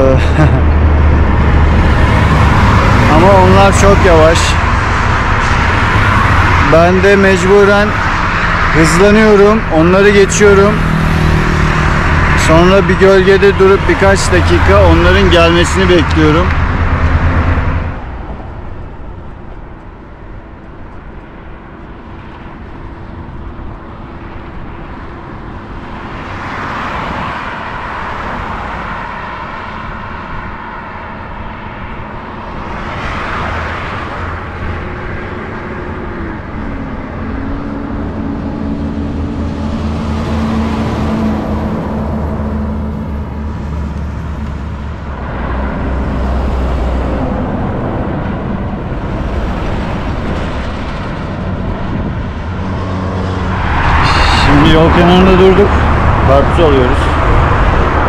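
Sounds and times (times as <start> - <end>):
engine hum: 0.0 - 58.0
low road rumble: 0.0 - 58.0
vehicles passing: 0.0 - 58.0.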